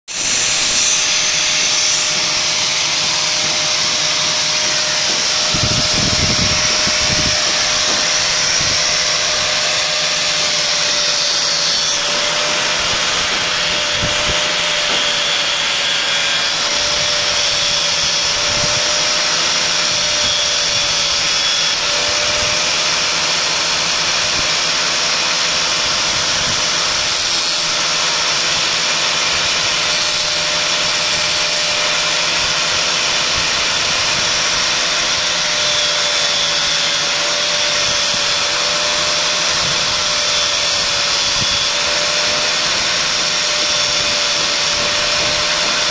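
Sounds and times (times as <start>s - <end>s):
angle grinder motor whine: 0.1s - 45.9s
hiss of metal being ground: 0.1s - 45.9s.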